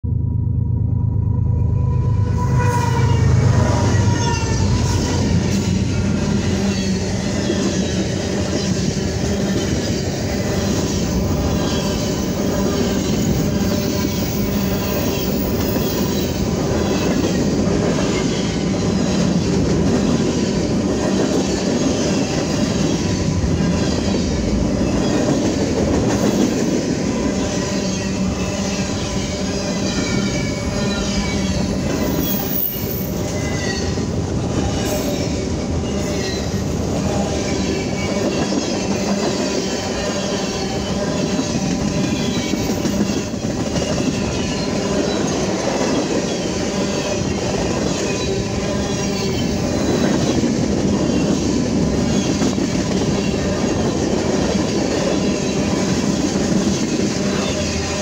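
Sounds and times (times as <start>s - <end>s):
freight train wheels on rails: 0.1s - 58.0s.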